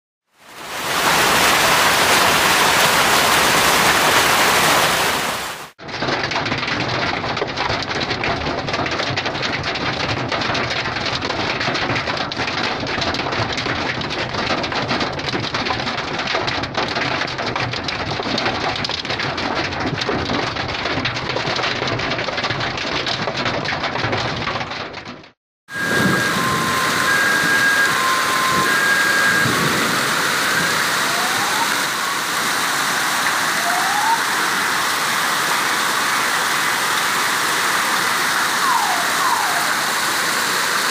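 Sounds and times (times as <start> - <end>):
heavy rain and hail: 0.3 - 40.9.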